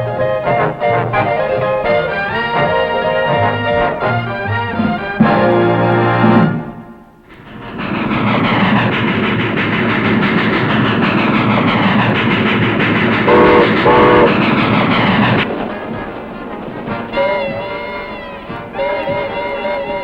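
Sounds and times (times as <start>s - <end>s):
steam train whistle: 0.0s - 7.8s, 8.5s - 20.0s
train wheels clattering on rails: 0.0s - 20.0s.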